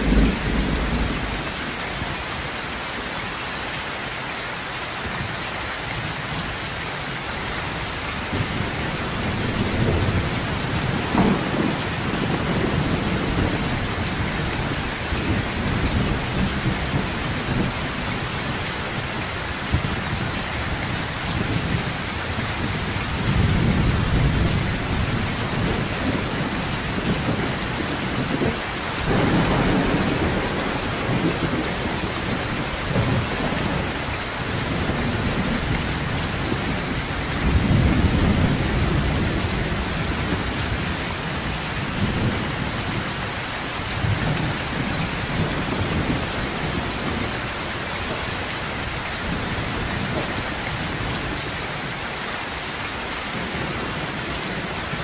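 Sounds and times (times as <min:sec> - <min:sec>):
thunder rumbling: 0:00.0 - 0:02.1, 0:07.8 - 0:51.4
heavy rain on a metal roof: 0:00.0 - 0:55.0.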